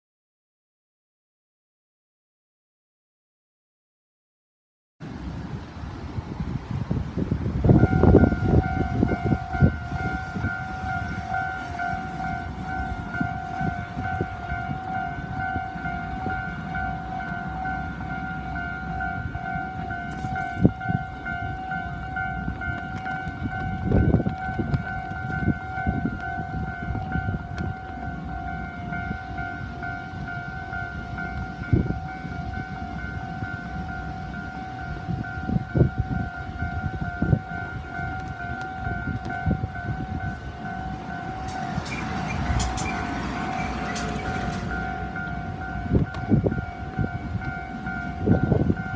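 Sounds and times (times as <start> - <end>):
level crossing warning bell: 7.6 - 48.9.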